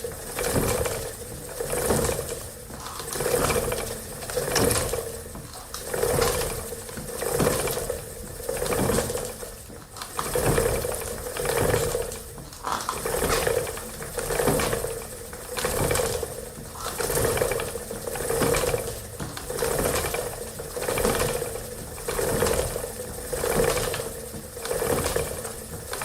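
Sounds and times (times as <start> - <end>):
wooden spinning wheel clicking: 0.1 - 26.0.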